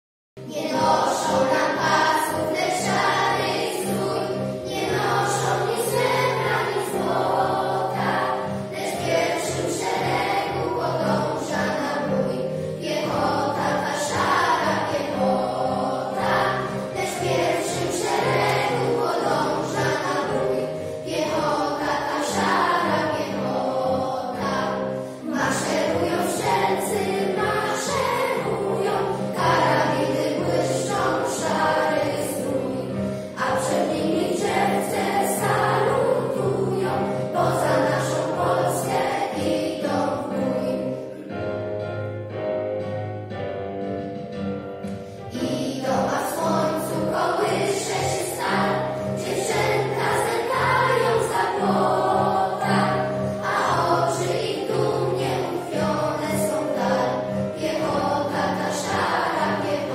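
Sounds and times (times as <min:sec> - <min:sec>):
children's choir singing: 0:00.4 - 0:41.6, 0:45.0 - 0:59.9.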